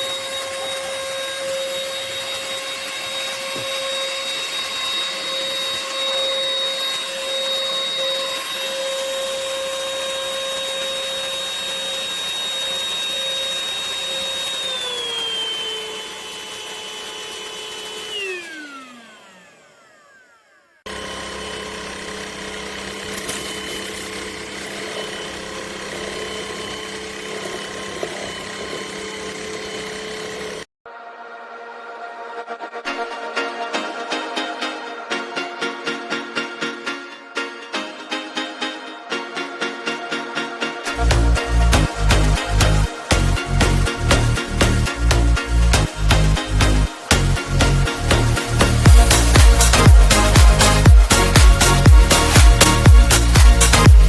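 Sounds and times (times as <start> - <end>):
stick vacuum motor whining: 0.0 - 30.7, 40.9 - 54.0.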